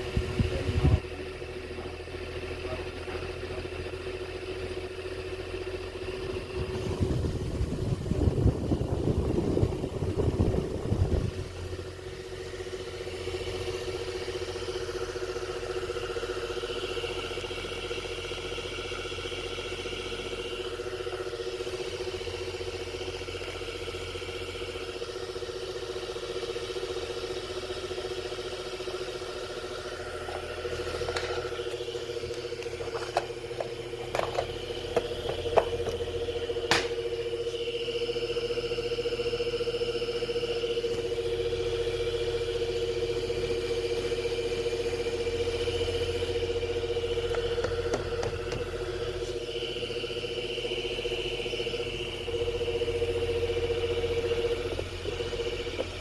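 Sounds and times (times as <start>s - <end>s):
electric fan motor hum: 0.0s - 56.0s.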